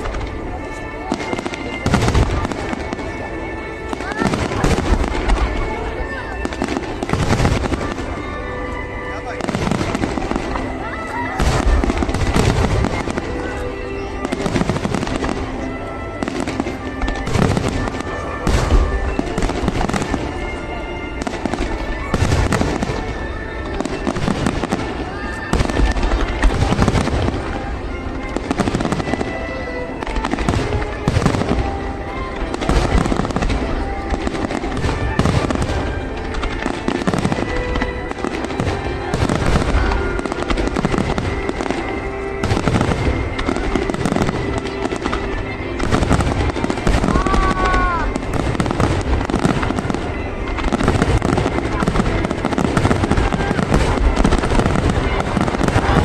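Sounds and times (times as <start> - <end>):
fireworks bursting and crackling: 0.0 - 56.0
music playing: 0.0 - 56.0.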